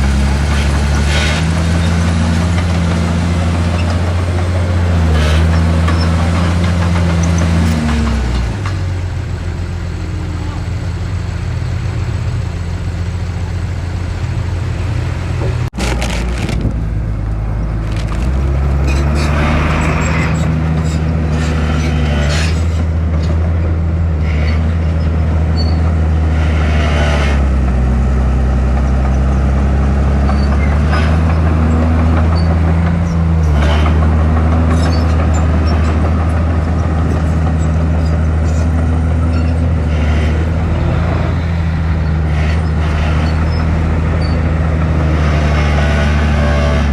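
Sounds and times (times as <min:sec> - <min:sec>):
heavy machinery diesel engine: 0:00.0 - 0:46.9.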